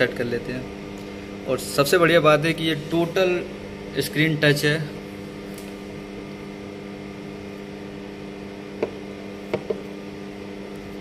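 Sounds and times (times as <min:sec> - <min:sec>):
steady low room hum: 0:00.0 - 0:11.0.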